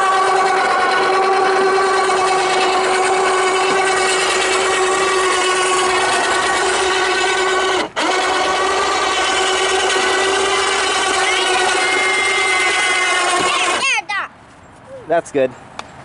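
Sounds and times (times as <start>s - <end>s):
electric winch motor whining: 0.0s - 14.0s.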